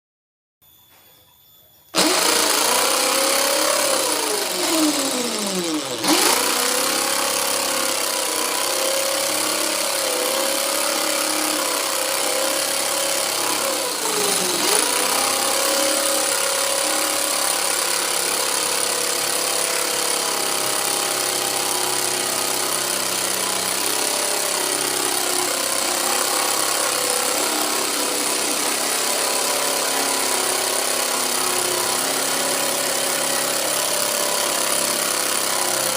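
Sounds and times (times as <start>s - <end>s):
electric saw cutting wood: 2.0s - 35.9s.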